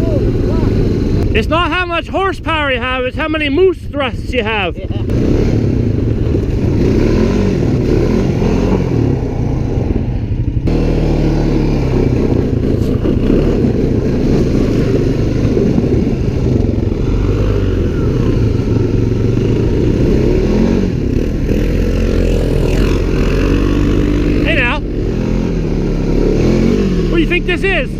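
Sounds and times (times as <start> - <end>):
utility vehicle engine droning: 0.0 - 27.9.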